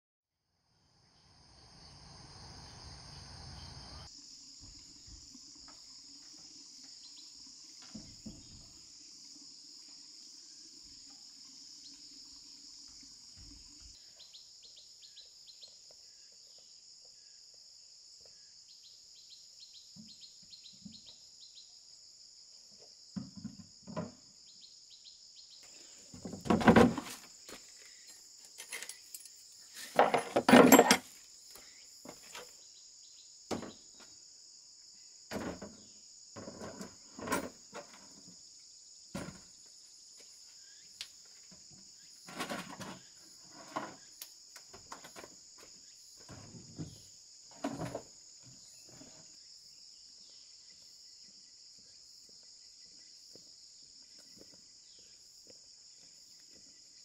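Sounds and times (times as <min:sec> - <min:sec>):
insect chorus trilling: 0:01.0 - 0:57.0.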